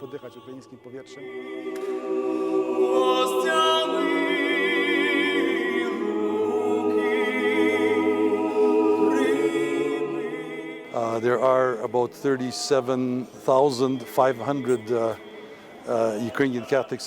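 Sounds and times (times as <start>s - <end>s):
a cappella choir singing: 0.0s - 17.0s.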